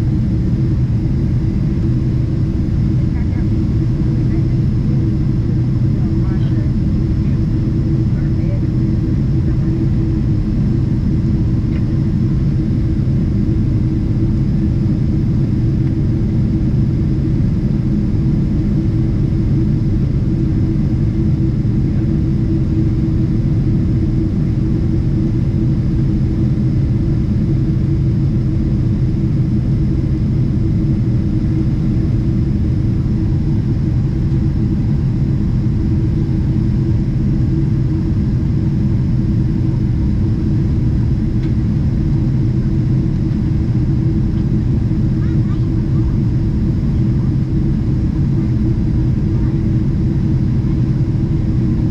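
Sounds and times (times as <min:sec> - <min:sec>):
jet engine rumble: 0:00.0 - 0:51.9
steady low hum: 0:00.0 - 0:51.9.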